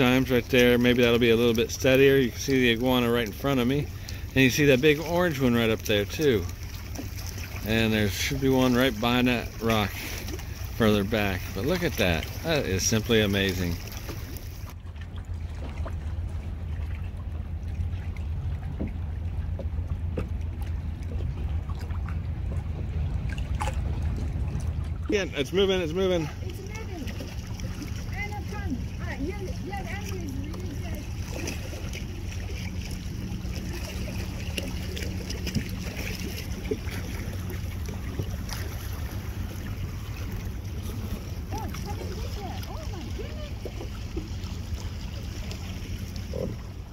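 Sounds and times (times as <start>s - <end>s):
small splashes: 0.0s - 46.9s
steady low hum: 0.0s - 46.9s
steady low rumble: 0.0s - 46.9s
water lapping and trickling: 0.0s - 46.9s.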